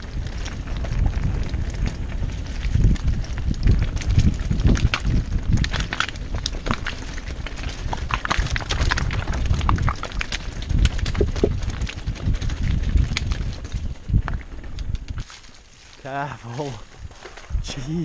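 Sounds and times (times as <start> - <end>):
wind buffeting microphone: 0.0 - 15.3, 16.0 - 18.0
bike rattling clicks and knocks: 0.0 - 16.0
tyres crunching over stones: 0.0 - 18.0.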